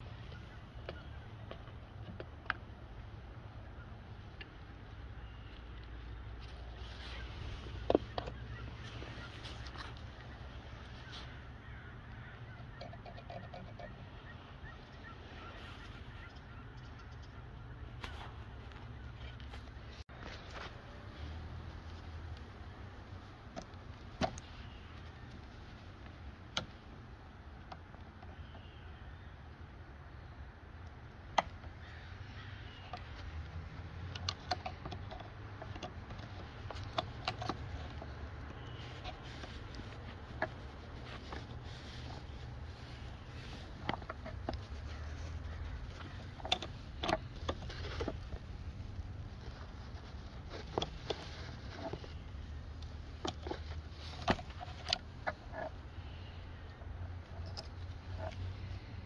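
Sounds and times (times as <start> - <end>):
low steady hum: 0.0 - 59.0
low steady rumble: 0.0 - 59.0.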